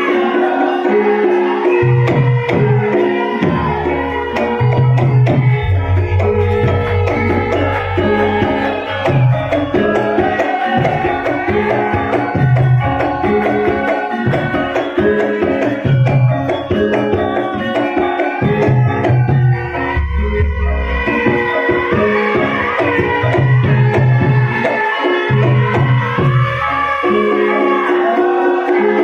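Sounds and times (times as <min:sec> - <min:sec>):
hand drums: 0:00.0 - 0:29.0
wavering melodic line: 0:02.1 - 0:28.6.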